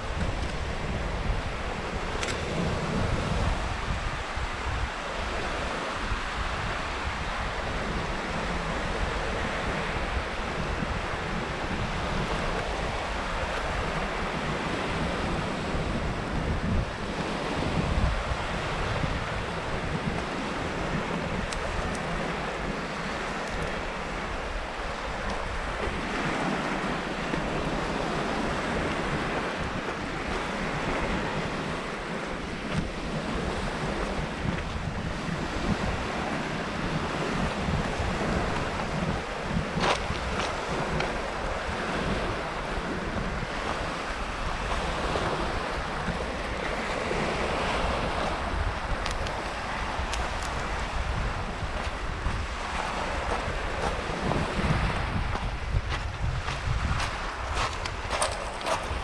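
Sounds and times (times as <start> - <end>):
surf washing onto shore: 0.0 - 59.0
wind buffeting microphone: 0.0 - 59.0.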